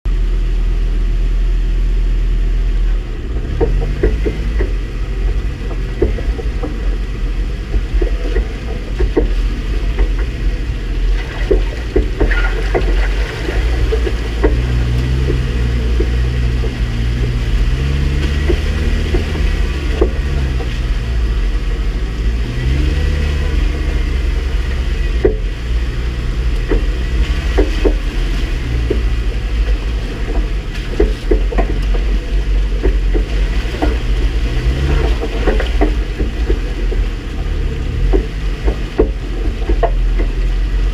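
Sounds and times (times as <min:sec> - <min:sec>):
engine revving low speed: 0:00.1 - 0:40.9
vehicle knocks and rattles: 0:02.7 - 0:40.9.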